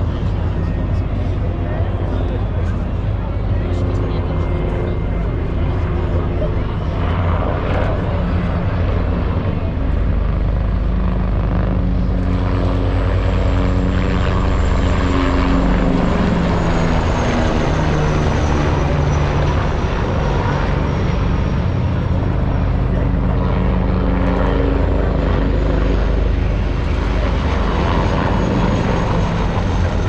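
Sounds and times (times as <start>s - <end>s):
helicopter flying past: 0.0s - 30.0s.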